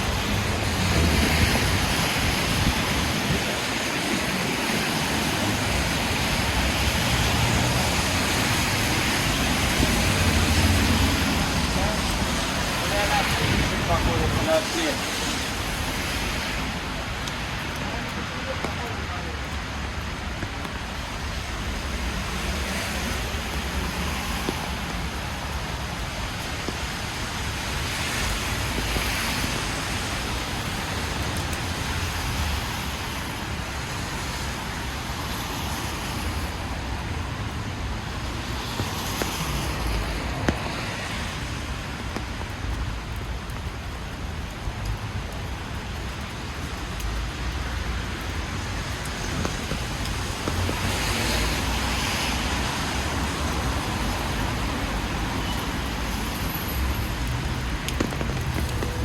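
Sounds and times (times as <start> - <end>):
cars swishing on wet road: 0.0 - 59.0
rain hiss: 0.0 - 59.0.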